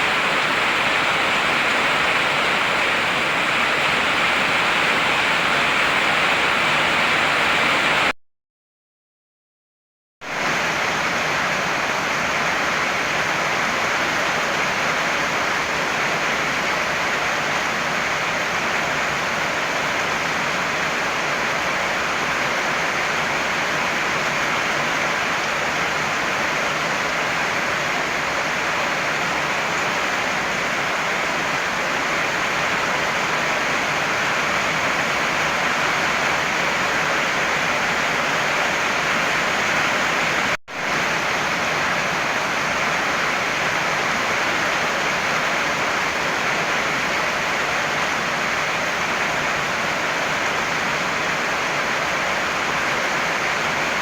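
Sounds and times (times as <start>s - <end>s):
heavy rain falling: 0.0s - 8.1s, 10.3s - 54.0s.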